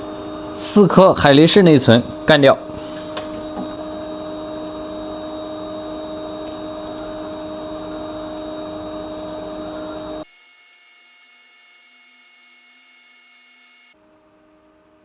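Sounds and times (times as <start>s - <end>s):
hot air rework station blowing: 0.0s - 14.0s.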